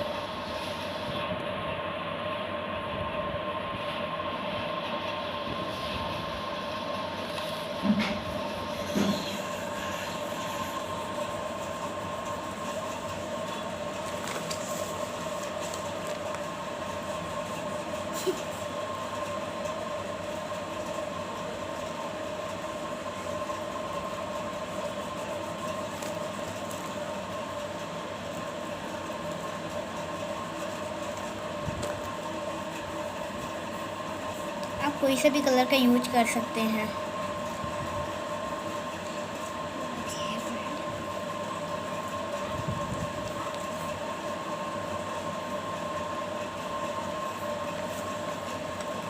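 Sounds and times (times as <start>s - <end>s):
steady mechanical hum: 0.0s - 49.0s.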